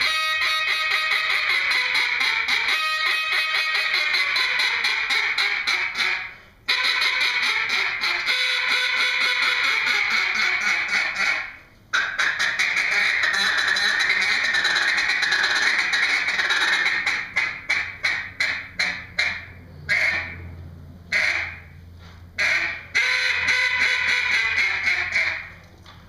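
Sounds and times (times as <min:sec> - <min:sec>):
duck call quacking: 0:00.0 - 0:20.4, 0:21.1 - 0:21.7, 0:22.4 - 0:25.6.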